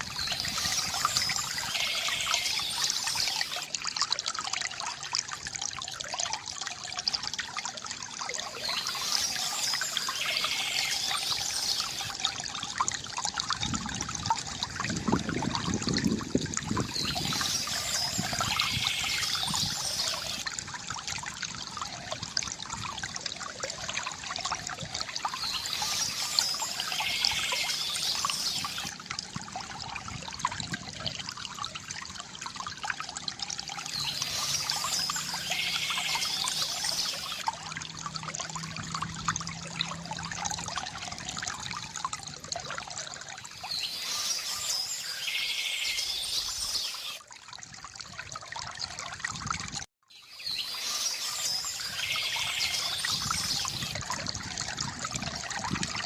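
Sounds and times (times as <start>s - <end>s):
water trickling from fountain: 0.0s - 56.0s.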